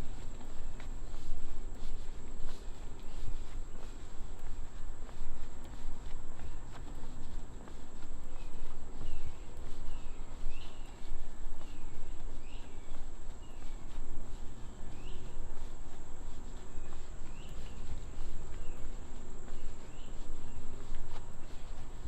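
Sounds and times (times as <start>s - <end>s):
insects droning whine: 0.0s - 22.0s.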